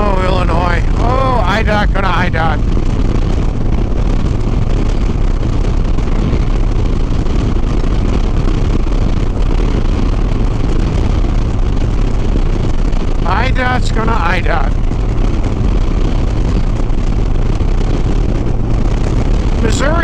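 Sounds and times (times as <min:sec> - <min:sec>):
motorcycle engine drone: 0:00.0 - 0:20.0
wind rushing on microphone: 0:00.0 - 0:20.0.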